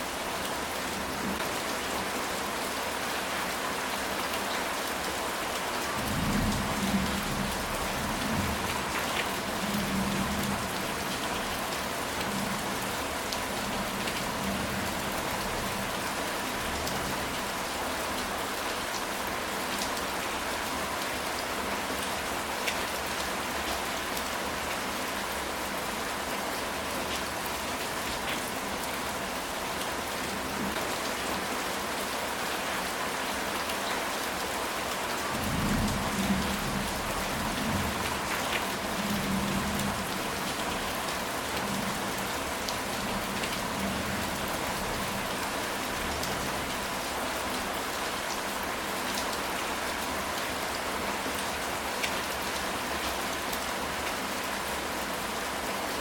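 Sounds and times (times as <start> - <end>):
rain on a tile roof: 0.0 - 56.0.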